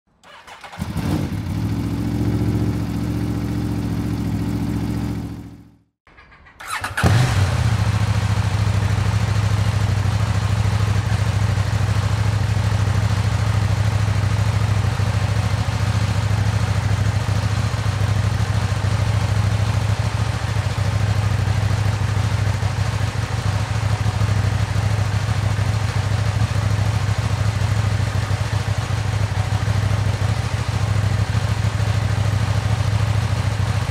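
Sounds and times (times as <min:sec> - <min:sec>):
motorcycle engine starting and idling: 0:00.2 - 0:33.9.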